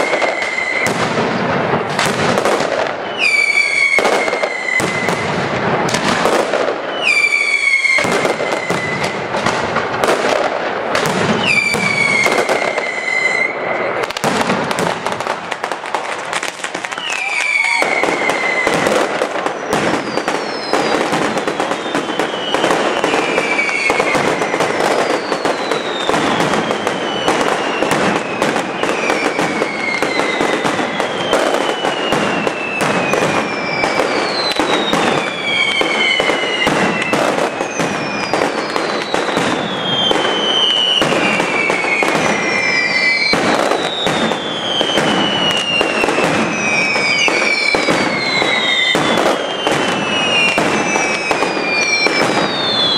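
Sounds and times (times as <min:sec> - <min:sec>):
falling whistle: 0:00.0 - 0:00.9, 0:03.0 - 0:05.2, 0:06.8 - 0:09.2, 0:11.4 - 0:13.7, 0:17.0 - 0:18.9, 0:19.5 - 0:52.9
firecrackers crackling: 0:00.0 - 0:52.9.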